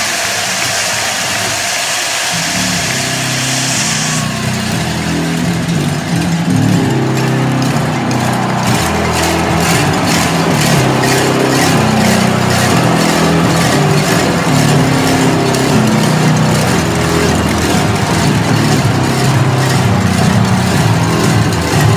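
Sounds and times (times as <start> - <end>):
sharp high drum strikes: 0.0 - 21.9
stadium crowd noise: 0.0 - 21.9
low brass notes: 2.4 - 21.9.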